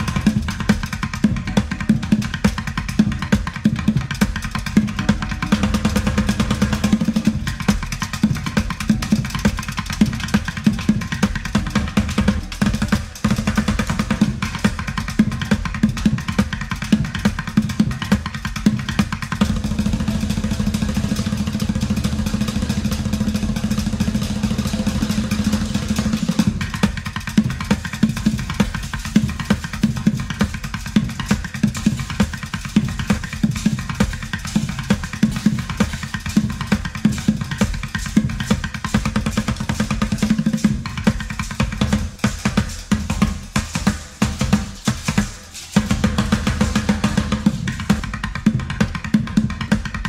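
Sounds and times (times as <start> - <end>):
background music with drum beat: 0.0 - 50.0.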